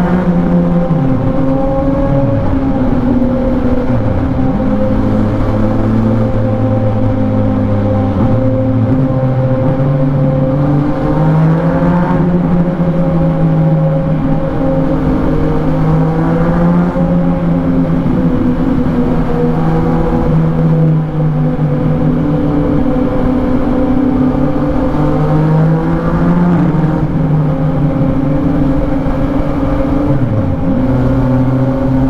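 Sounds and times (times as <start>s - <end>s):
motorcycle engine while riding: 0.0s - 32.0s.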